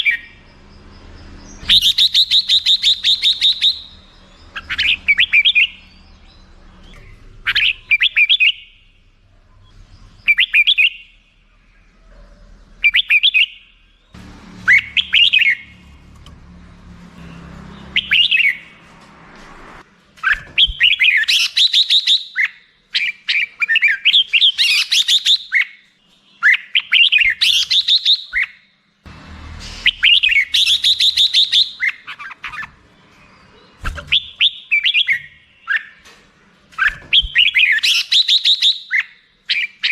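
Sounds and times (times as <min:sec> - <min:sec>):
bird singing warbled phrases: 0:00.0 - 0:16.0, 0:16.8 - 0:18.8, 0:20.2 - 0:28.8, 0:29.7 - 0:39.9.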